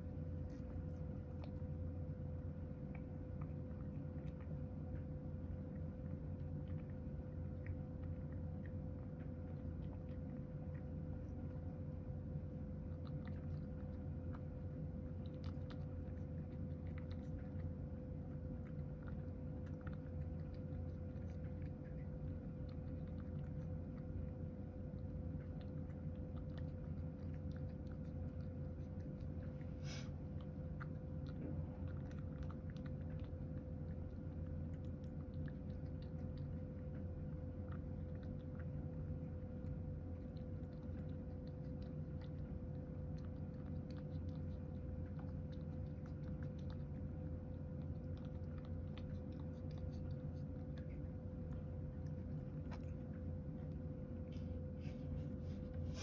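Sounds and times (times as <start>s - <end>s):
cat chewing and crunching: 0.0s - 56.0s
constant low hum: 0.0s - 56.0s.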